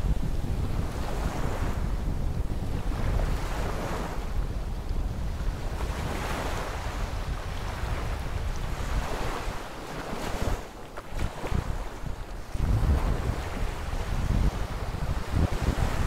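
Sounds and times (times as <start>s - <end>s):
sea waves washing at shore: 0.0s - 16.0s
wind gusting across microphone: 0.0s - 16.0s.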